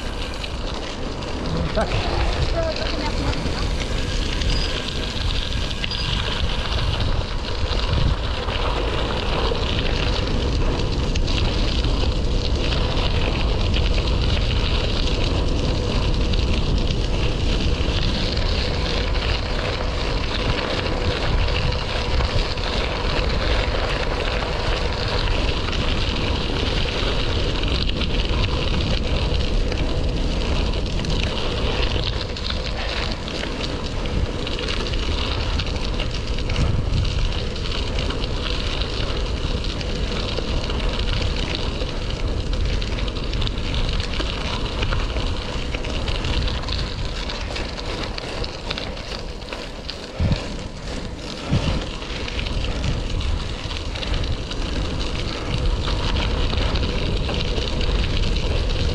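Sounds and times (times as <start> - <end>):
bicycle tyres rolling: 0.0 - 58.9
wind buffeting microphone: 0.0 - 58.9.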